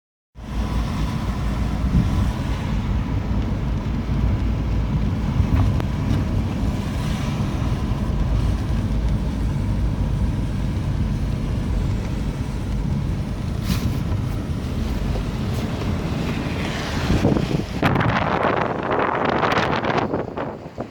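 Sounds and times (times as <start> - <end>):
wind buffeting microphone: 0.5 - 20.9
rainstorm rushing: 0.6 - 20.6.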